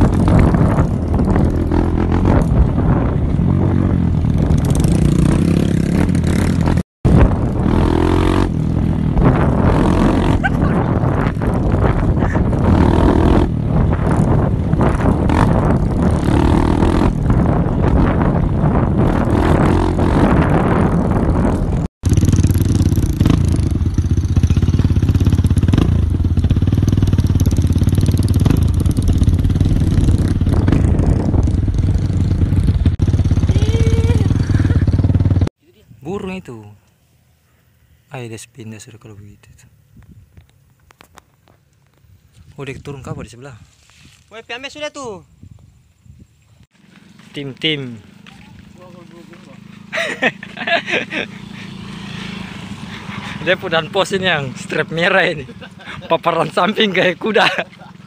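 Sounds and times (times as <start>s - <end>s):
motorcycle engines running: 0.0s - 35.5s, 46.1s - 58.0s
rough road and air noise: 0.0s - 58.0s.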